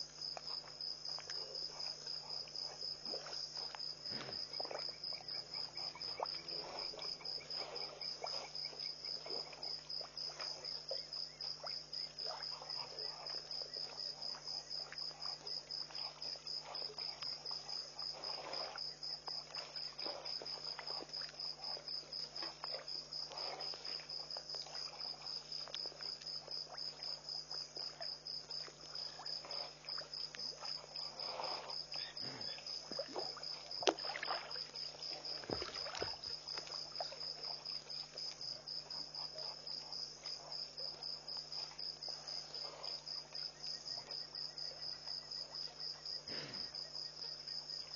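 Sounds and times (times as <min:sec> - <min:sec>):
crickets chirping: 0:00.0 - 0:47.9
elephants drinking water: 0:00.1 - 0:47.9.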